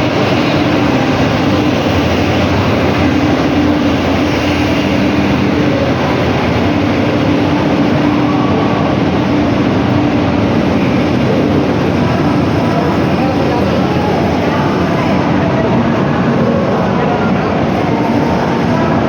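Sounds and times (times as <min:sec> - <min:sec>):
locomotive engine droning: 0:00.0 - 0:19.0.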